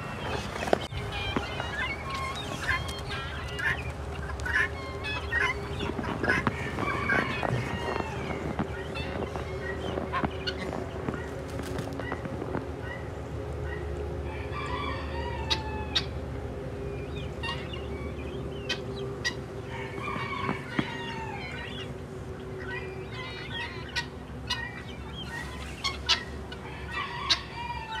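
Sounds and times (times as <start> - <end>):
rooster crowing: 0.0 - 16.9, 19.3 - 23.9, 26.5 - 28.0
faint steady hum: 0.0 - 28.0
hens clucking: 0.0 - 28.0.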